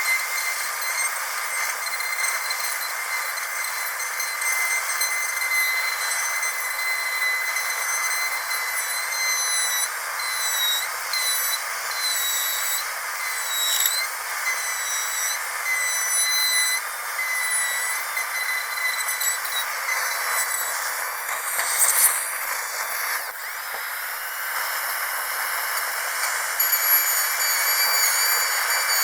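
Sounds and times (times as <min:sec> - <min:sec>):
dentist's drill whining: 0:00.0 - 0:29.0.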